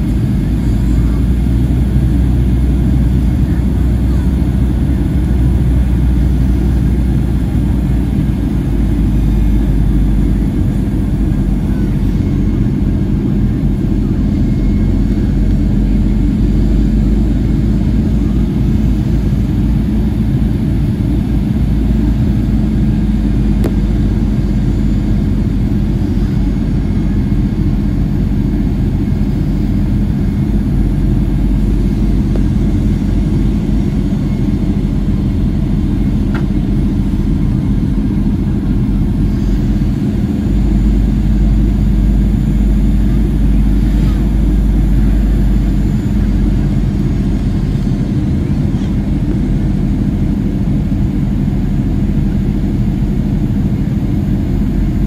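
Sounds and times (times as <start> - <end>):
jet engines rumbling: 0.0 - 55.0
steady cabin hum: 0.0 - 55.0.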